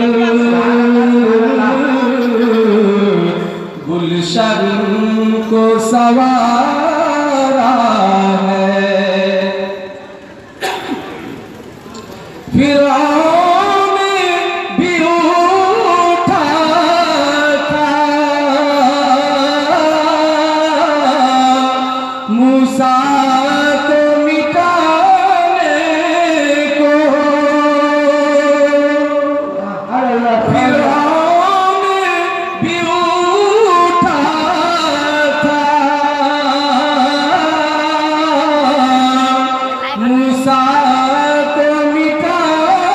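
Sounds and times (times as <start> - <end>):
man singing into microphone: 0.0 - 10.3, 12.5 - 42.9.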